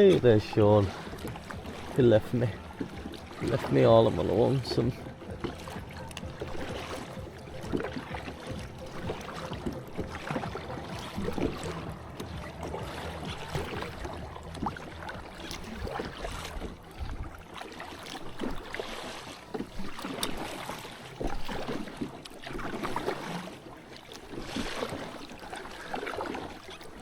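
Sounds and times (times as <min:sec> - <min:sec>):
water splashing around a kayak: 0:00.0 - 0:27.0.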